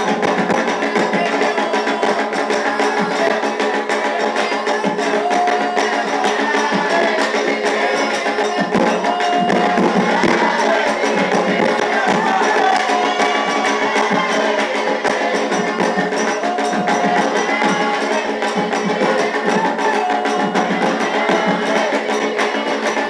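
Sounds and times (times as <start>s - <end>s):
fast hand percussion: 0.0s - 23.0s
people singing: 0.0s - 23.0s.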